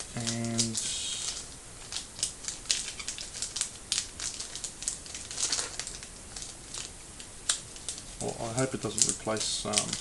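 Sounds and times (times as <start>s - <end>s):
trading cards being handled: 0.0s - 10.0s
paper crinkling: 0.2s - 10.0s.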